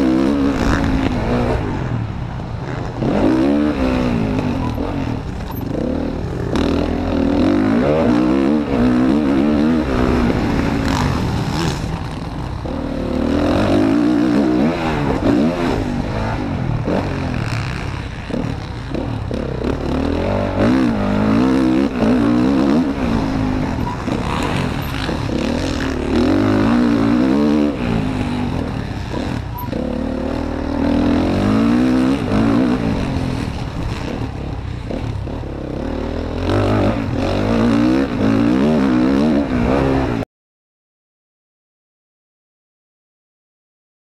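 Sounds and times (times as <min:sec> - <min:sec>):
motocross bike engine revving: 0:00.0 - 0:40.2.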